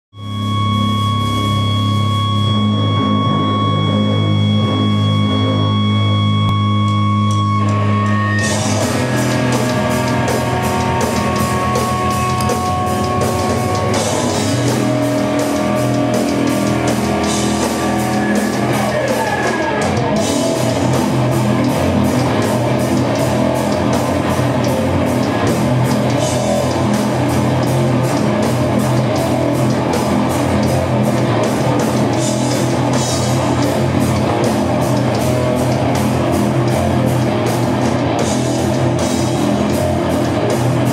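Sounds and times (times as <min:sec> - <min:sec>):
held guitar tone: 0:00.2 - 0:40.9
live rock band playing: 0:00.2 - 0:40.9.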